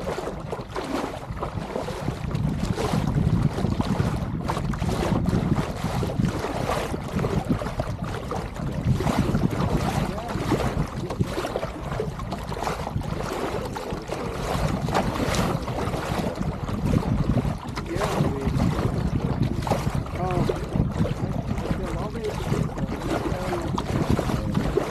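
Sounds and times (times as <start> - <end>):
water rushing and splashing: 0.0 - 24.9
wind buffeting microphone: 0.0 - 24.9.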